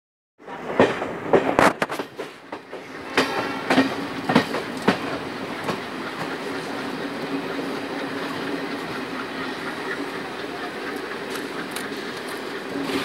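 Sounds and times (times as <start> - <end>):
train rumble: 0.4 - 13.0
train wheels clattering: 0.4 - 13.0.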